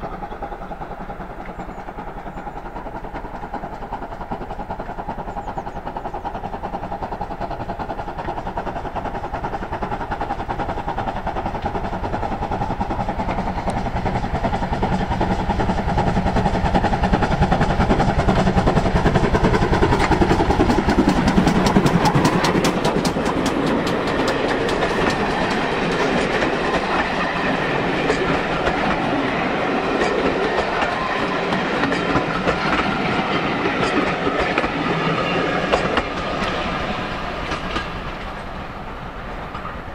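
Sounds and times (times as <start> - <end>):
steam locomotive passing: 0.0 - 39.9
train wheels clacking over rail joints: 0.0 - 39.9.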